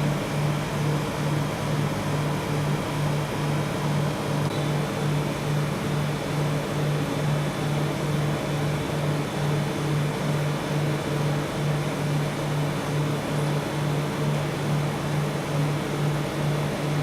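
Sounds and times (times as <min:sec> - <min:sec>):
pulsing machine hum: 0:00.0 - 0:17.0.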